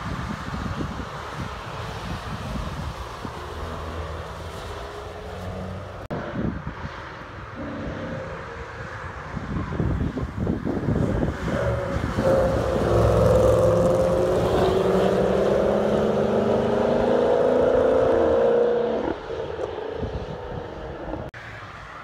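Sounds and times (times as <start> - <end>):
faint road noise: 0.0 - 22.0.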